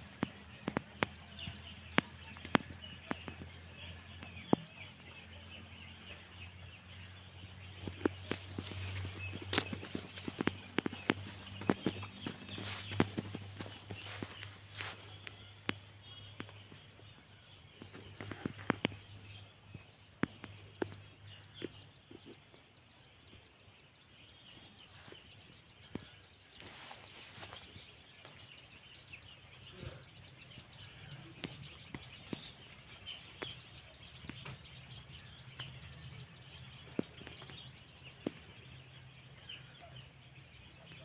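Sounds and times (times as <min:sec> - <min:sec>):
birds chirping faintly: 0:00.0 - 0:41.0.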